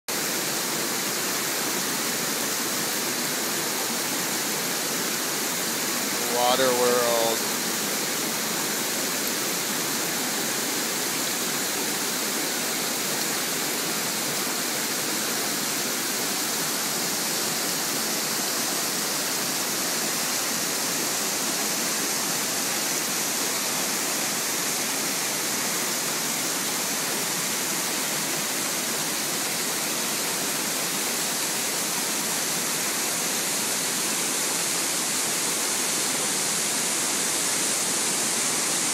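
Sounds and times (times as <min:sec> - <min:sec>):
water rushing over boulders: 0:00.1 - 0:38.9.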